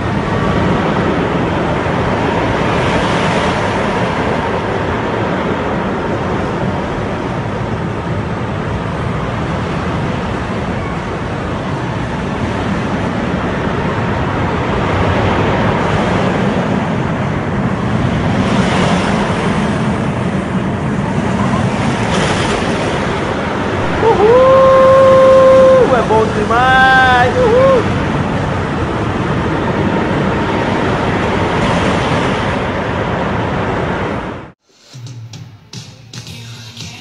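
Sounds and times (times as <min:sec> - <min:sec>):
roller coaster rumbling on track: 0:00.0 - 0:34.5.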